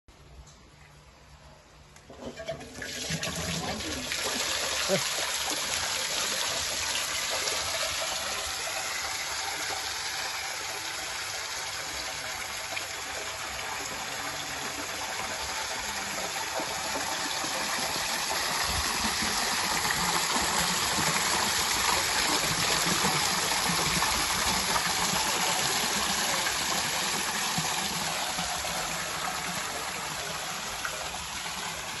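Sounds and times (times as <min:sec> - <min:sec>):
fountain water splashing into pond: 0:02.5 - 0:32.0.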